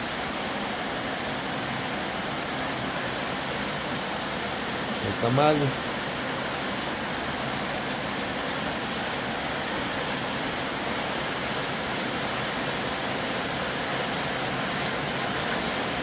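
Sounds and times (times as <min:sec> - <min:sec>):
heavy rain on a metal roof: 0:00.0 - 0:16.0.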